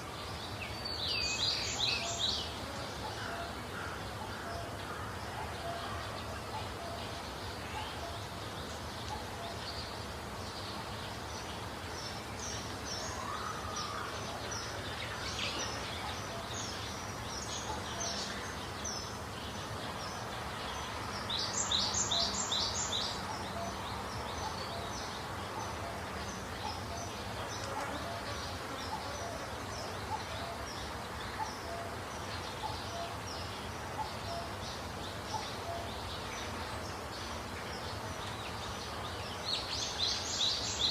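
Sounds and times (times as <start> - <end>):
background hiss: 0.0 - 40.9
small birds chirping: 0.0 - 40.9.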